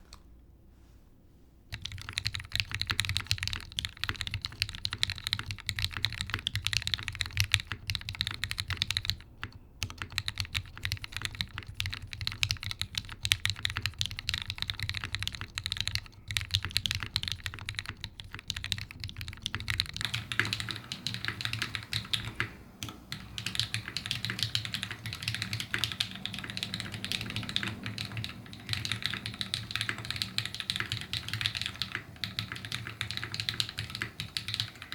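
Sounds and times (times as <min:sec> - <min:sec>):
typing on mechanical keyboard: 0:01.7 - 0:34.9.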